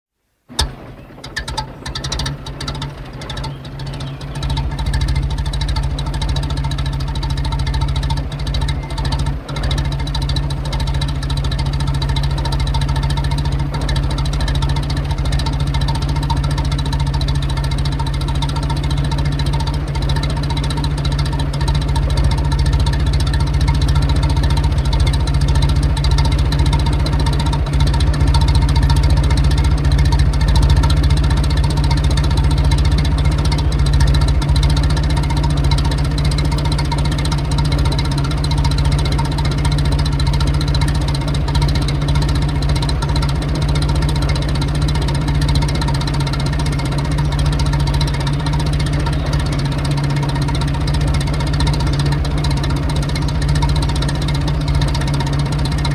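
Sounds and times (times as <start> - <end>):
car engine idling unevenly: 0.2 - 55.9.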